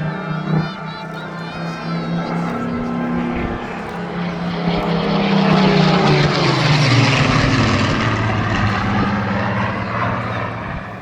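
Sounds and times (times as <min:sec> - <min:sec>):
aircraft flying past low: 0:00.0 - 0:11.0.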